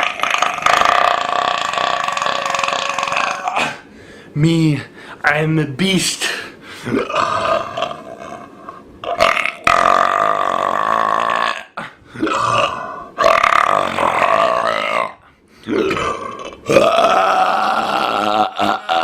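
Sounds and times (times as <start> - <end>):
loud burps: 0.0 - 3.8, 6.9 - 19.0.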